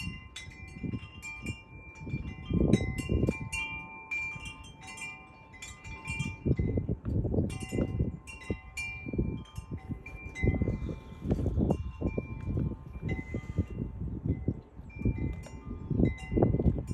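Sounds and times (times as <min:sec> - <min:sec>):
wind chimes ringing: 0:00.0 - 0:16.9
wind rumbling on microphone: 0:00.0 - 0:16.9.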